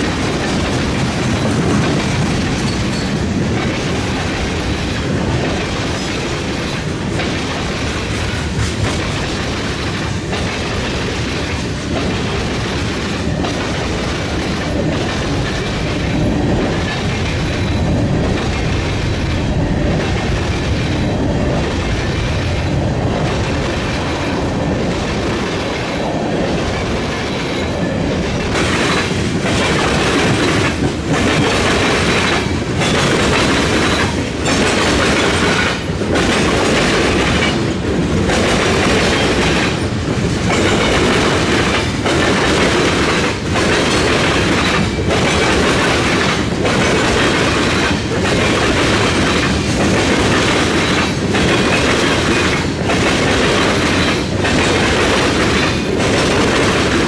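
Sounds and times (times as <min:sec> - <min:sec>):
freight train cars rolling: 0:00.0 - 0:57.0
wheels clickety-clack: 0:00.0 - 0:57.0.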